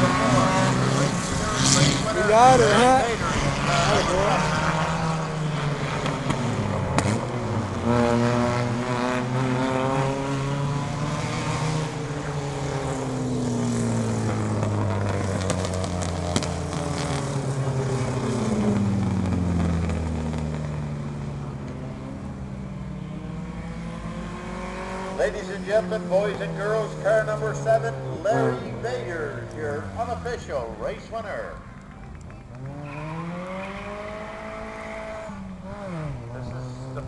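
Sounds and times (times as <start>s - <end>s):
race car engines passing by: 0.0s - 37.0s.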